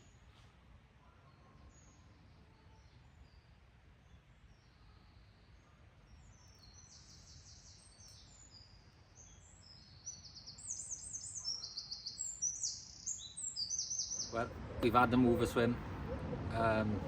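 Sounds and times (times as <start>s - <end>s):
songbird singing trills: 1.2s - 17.0s.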